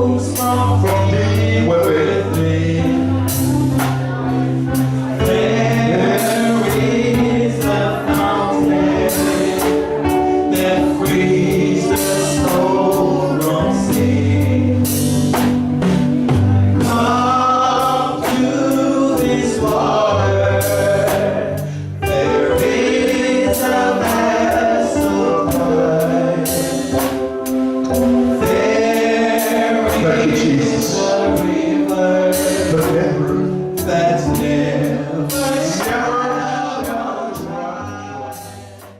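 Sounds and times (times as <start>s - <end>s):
band with bass and drums: 0.0s - 38.9s
choir singing gospel music: 0.0s - 38.9s.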